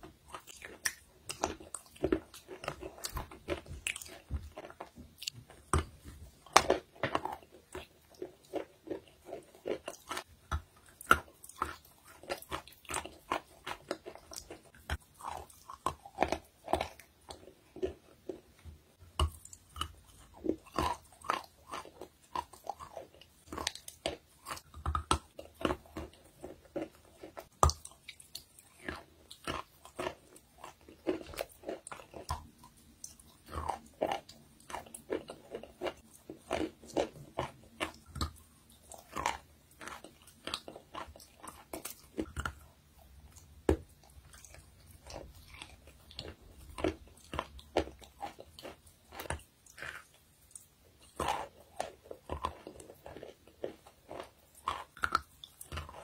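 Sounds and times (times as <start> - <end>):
soft chewing: 0.0 - 56.0.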